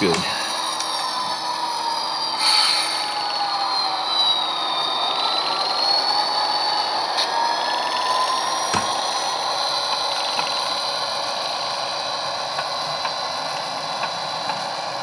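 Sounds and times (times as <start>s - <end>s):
model locomotive whine: 0.0s - 15.0s.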